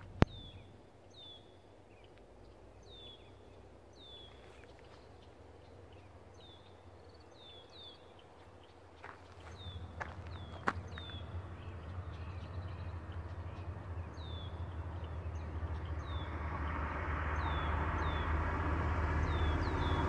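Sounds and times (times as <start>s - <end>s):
bird chirping: 0.0s - 20.0s
outdoor background noise: 0.0s - 20.0s.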